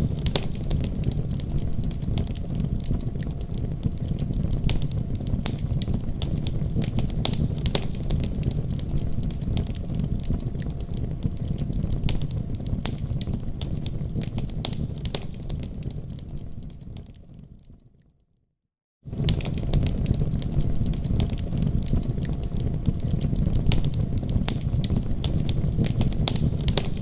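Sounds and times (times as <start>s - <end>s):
fire crackling and popping: 0.0s - 18.0s, 19.1s - 27.0s
fire rumbling in fireplace: 0.0s - 18.0s, 19.0s - 27.0s.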